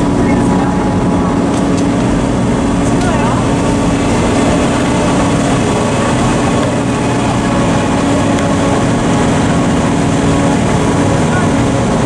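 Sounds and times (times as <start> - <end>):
train engine droning: 0.0 - 12.0.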